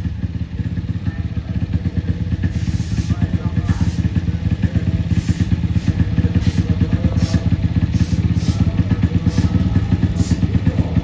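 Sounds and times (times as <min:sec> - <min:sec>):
motorbike engine idling: 0:00.0 - 0:11.0.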